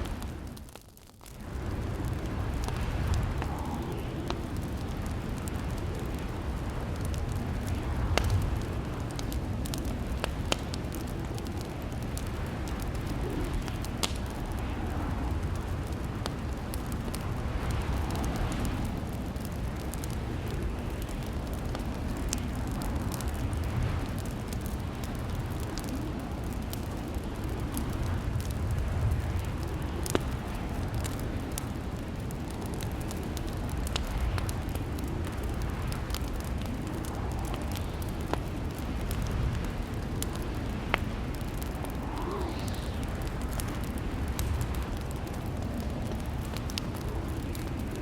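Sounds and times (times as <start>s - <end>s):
burning logs roaring: 0.0s - 48.0s
fire popping and snapping: 0.0s - 48.0s.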